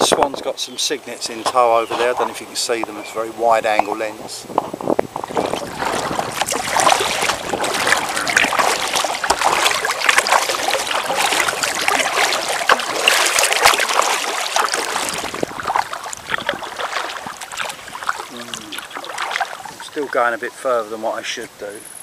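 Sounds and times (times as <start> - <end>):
water splashing along kayak: 0.0 - 21.6.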